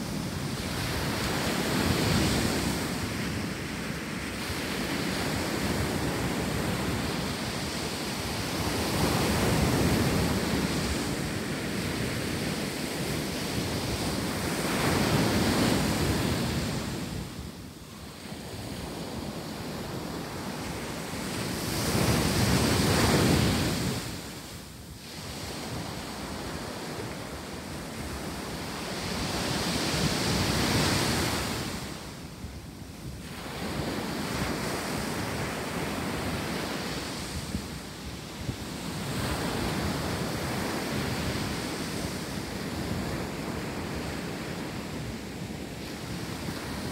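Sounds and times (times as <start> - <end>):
ocean surf breaking on beach: 0.0 - 46.9.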